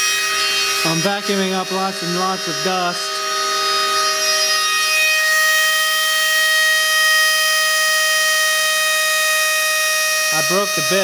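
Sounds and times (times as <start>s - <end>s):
spindle motor whining: 0.0s - 11.0s.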